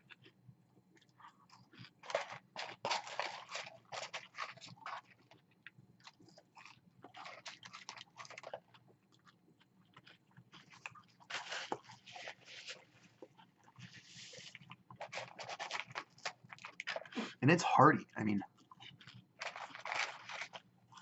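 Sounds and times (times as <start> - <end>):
person chewing crunchy food: 0.0 - 17.4, 18.5 - 21.0.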